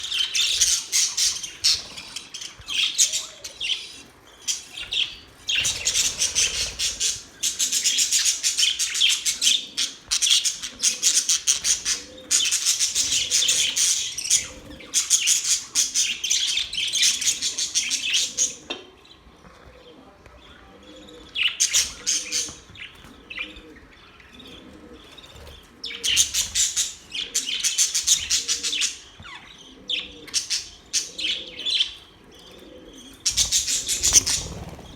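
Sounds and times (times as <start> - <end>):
budgerigars chirping and warbling: 0.0 - 19.3, 20.2 - 34.9.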